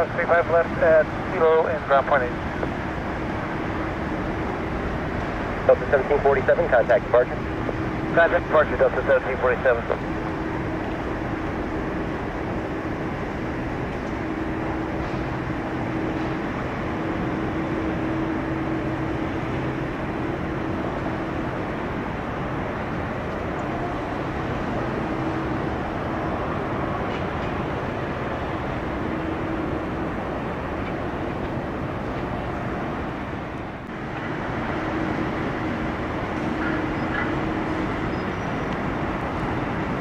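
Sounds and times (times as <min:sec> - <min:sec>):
faint hum: 0:00.0 - 0:40.0
jet engines rumbling: 0:00.0 - 0:40.0.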